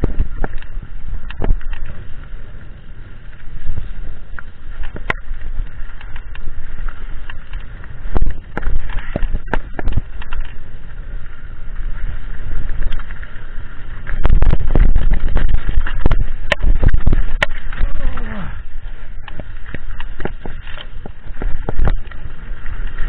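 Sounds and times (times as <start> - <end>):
bike knocking and rattling: 0.0 - 23.0
wind rumble on microphone: 0.0 - 23.0
tyre noise on dirt: 3.0 - 23.0.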